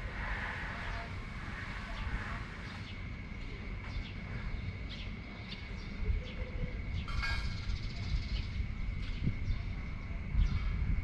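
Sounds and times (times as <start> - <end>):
wind gusting on microphone: 0.0 - 11.0.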